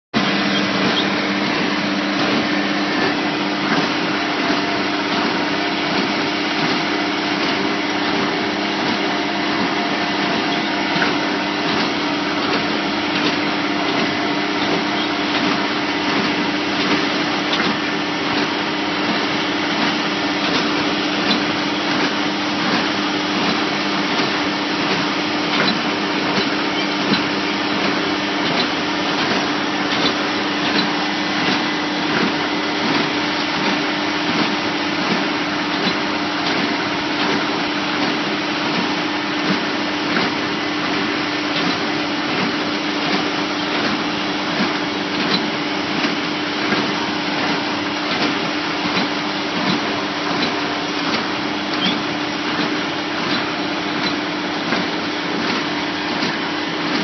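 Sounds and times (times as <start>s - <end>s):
tractor engine running: 0.2s - 57.0s.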